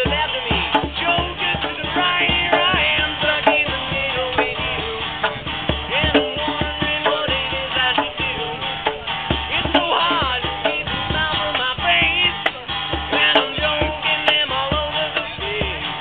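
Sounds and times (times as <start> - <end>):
acoustic guitar: 0.0 - 16.0
hand drum beat: 0.0 - 16.0.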